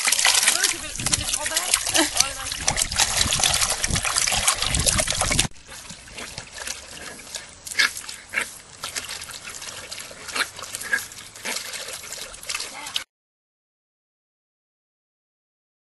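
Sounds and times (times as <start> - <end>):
dog splashing in water: 0.0 - 13.1.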